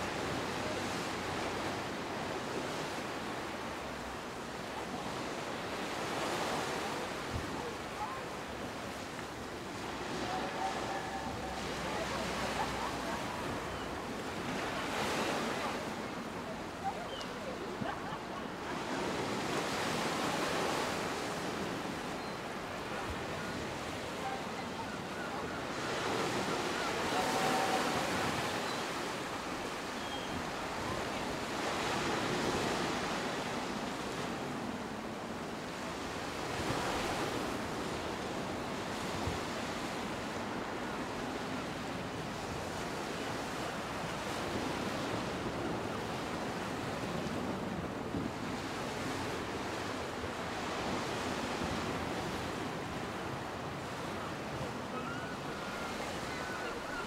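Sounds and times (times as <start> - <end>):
sea surf breaking: 0.0 - 57.0.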